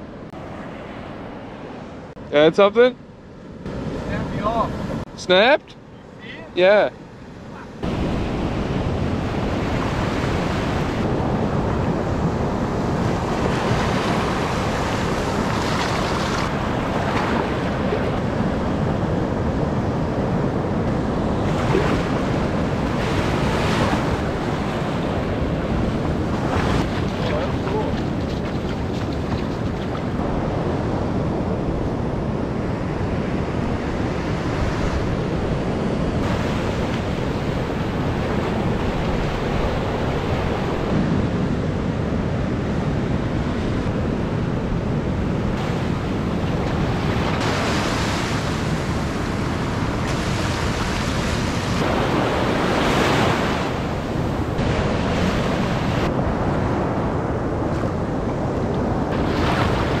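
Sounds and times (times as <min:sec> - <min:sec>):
ocean surf breaking: 0:00.0 - 1:00.0
wind buffeting microphone: 0:06.4 - 1:00.0.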